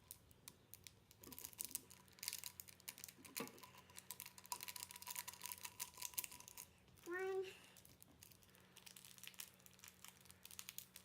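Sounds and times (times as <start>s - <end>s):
plastic packet crinkling: 0.0s - 6.7s, 7.6s - 11.0s.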